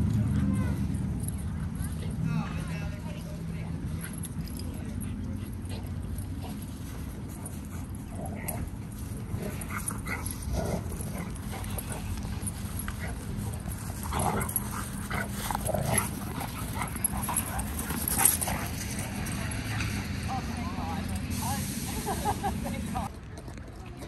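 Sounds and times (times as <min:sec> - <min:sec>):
dogs playing and vocalizing: 0:00.0 - 0:22.1.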